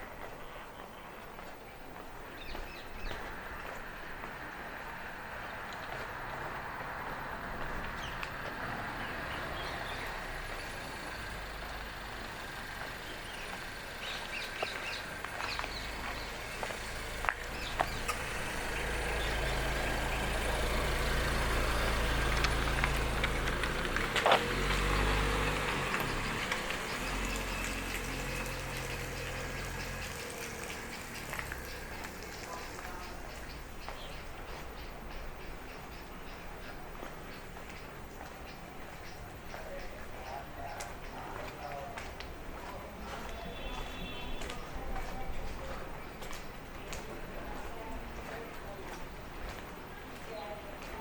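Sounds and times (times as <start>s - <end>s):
birds chirping: 0.0s - 51.0s
vehicle engine rumbling: 2.4s - 51.0s.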